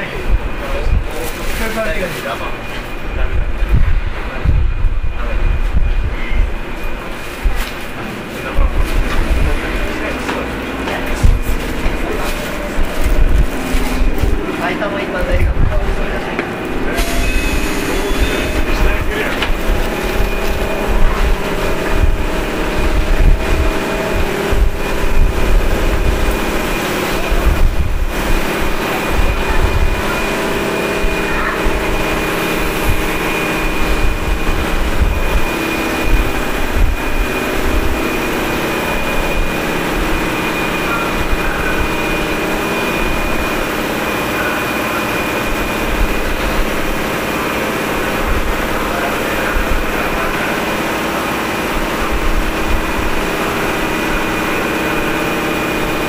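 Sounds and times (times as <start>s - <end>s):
heavy low pulsing: 0.0s - 56.0s
steady high whine: 0.0s - 56.0s.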